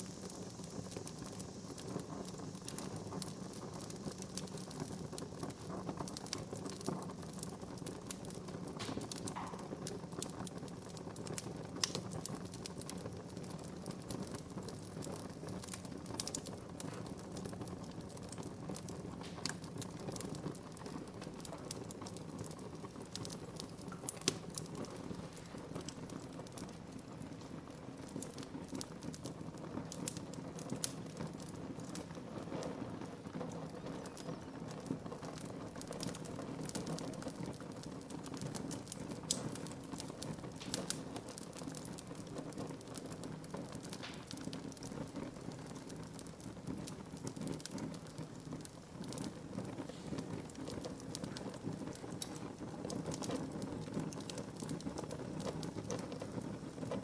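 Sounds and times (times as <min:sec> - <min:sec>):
burning wood crackling and popping: 0:00.0 - 0:57.0
low rumble of flame: 0:00.0 - 0:57.0.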